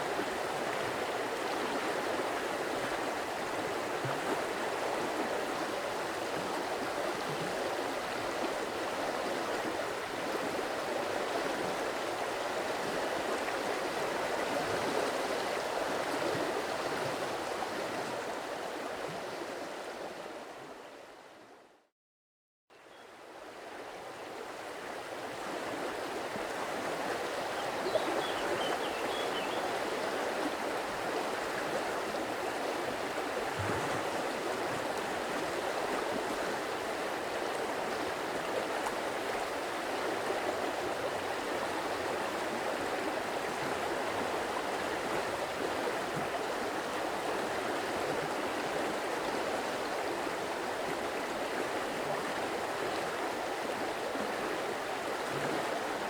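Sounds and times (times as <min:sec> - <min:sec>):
stream water running: 0:00.0 - 0:20.7, 0:22.9 - 0:56.0.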